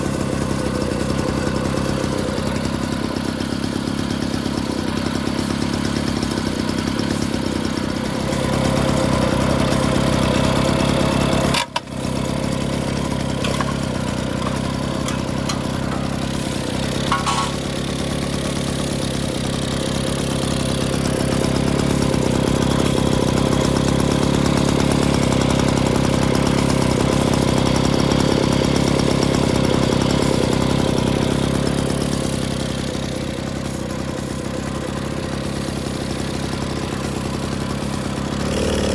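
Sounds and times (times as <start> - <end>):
moped engine idling: 0.0 - 38.9.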